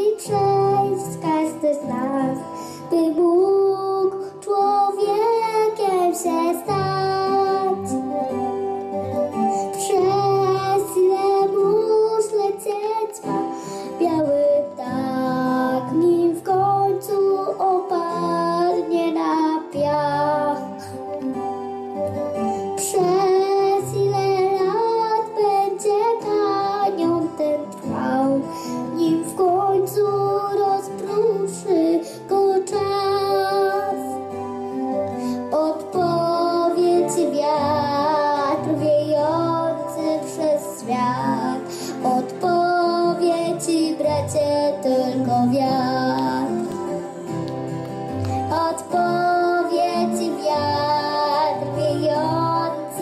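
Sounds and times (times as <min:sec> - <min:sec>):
backing music: 0:00.0 - 0:53.0
girl singing into microphone: 0:00.0 - 0:53.0.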